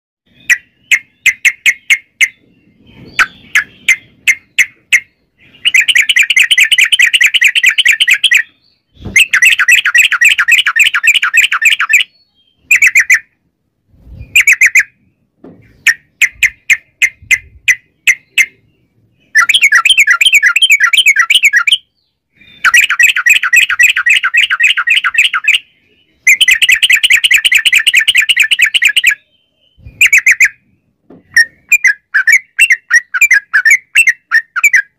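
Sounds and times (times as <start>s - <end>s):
bird chirping and trilling: 0.3s - 34.9s.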